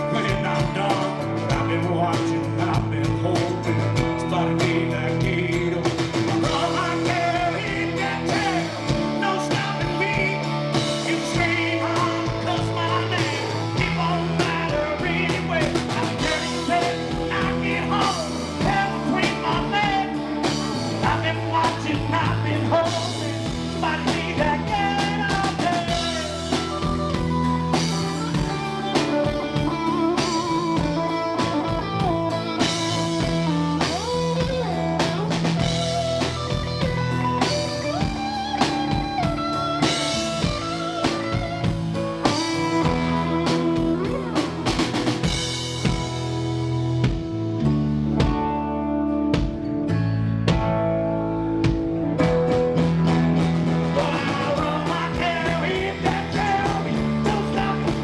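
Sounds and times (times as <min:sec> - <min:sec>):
lead guitar bending notes: 0:00.0 - 0:58.0
rock band playing: 0:00.0 - 0:58.0.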